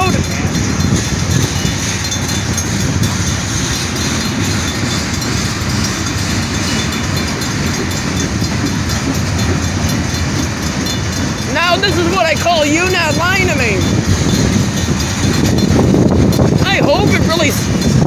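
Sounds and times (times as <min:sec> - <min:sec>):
freight train cars rolling: 0:00.0 - 0:18.0
steel wheels rumbling on rails: 0:00.0 - 0:18.0.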